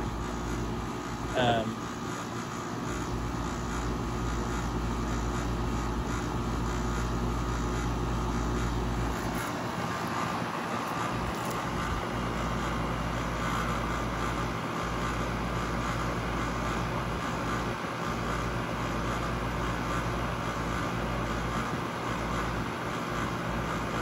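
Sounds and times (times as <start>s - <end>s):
air conditioner fan hum: 0.0s - 24.0s.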